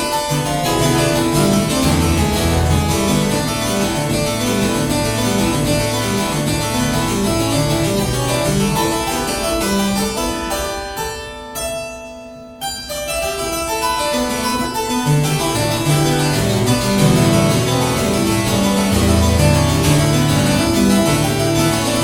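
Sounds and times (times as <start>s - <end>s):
solo harpsichord: 0.0s - 22.0s.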